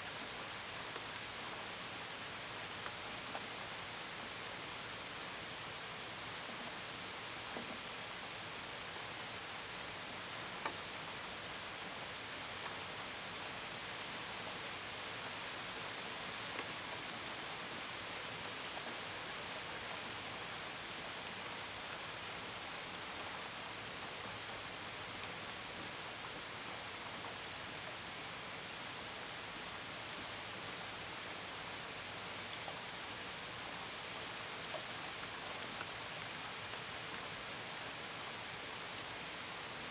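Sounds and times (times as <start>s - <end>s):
crickets chirping faintly: 0.0s - 39.9s
rain with drops pattering: 0.0s - 39.9s.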